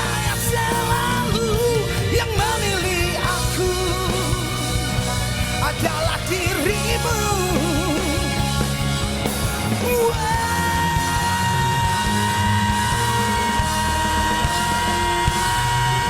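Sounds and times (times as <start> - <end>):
pop-rock band playing: 0.0 - 16.0.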